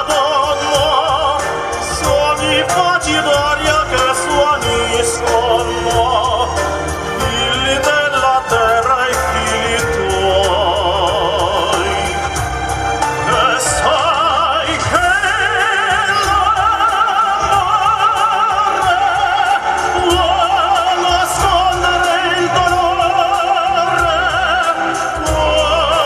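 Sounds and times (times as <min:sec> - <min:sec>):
backing music with steady beat: 0:00.0 - 0:26.0
man singing with vibrato: 0:00.0 - 0:26.0.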